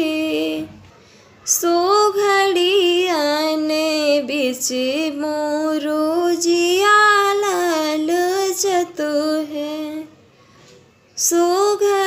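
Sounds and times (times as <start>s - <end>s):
woman singing unaccompanied: 0.0s - 0.9s, 1.5s - 10.1s, 11.2s - 12.0s.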